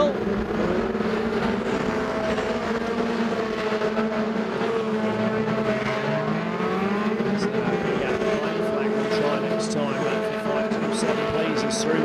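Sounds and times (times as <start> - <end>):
engine accelerating: 0.0 - 12.0
race car engines blaring: 0.0 - 12.0.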